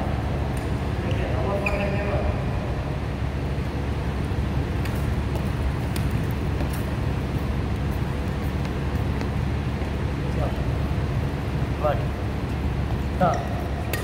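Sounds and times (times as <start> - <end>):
low rumble in sports hall: 0.0 - 14.0.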